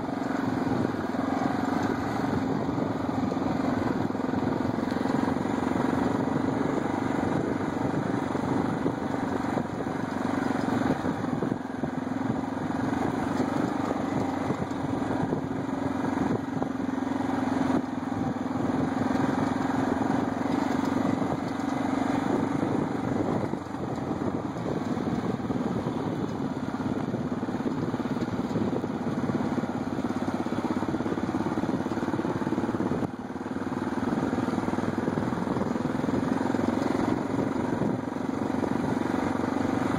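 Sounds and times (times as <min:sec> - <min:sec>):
atv engines running: 0:00.0 - 0:39.9.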